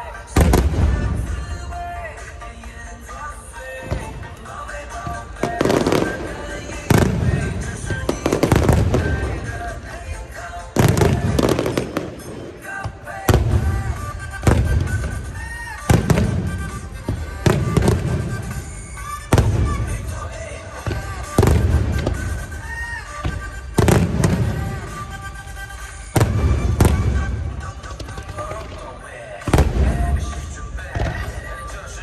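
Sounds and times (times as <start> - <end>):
music playing: 0.0 - 32.0
firework shells booming: 0.4 - 1.8, 3.8 - 31.4.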